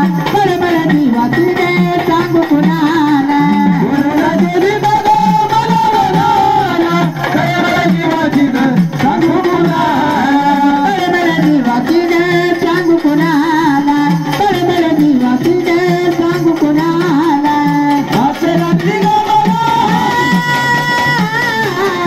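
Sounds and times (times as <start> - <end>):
person singing ornamented vocals: 0.0 - 22.0
repeating drum strokes: 0.0 - 22.0.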